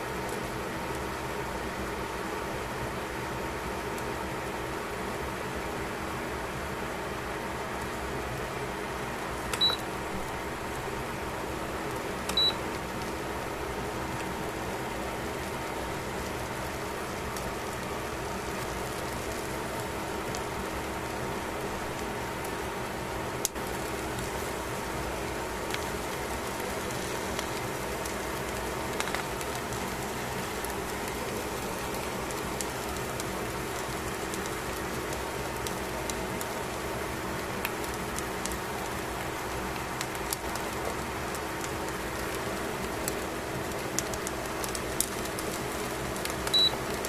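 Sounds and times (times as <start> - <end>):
fish sizzling on grill: 0.0 - 47.0.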